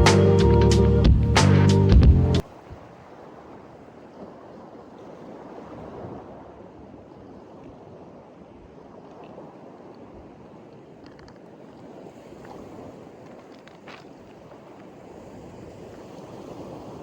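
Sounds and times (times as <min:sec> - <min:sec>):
wind: 0:00.0 - 0:17.0
small lake waves: 0:02.4 - 0:17.0.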